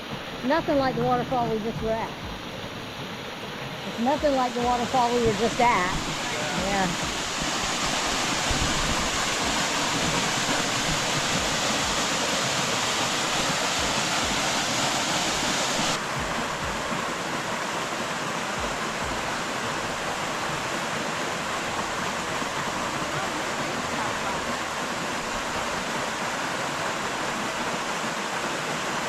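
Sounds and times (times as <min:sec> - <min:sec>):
waterfall splashing into pool: 0:03.9 - 0:29.0.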